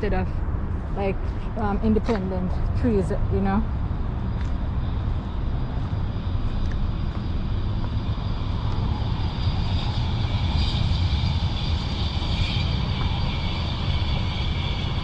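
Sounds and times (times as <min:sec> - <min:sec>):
distant engine rumble and whine: 0:00.0 - 0:15.0.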